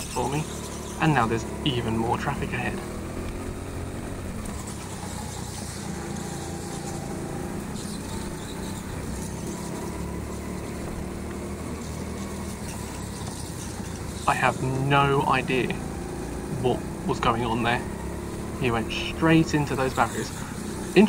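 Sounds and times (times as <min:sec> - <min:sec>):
go-kart motor hum: 0:00.0 - 0:21.0
wheel noise: 0:00.0 - 0:21.0.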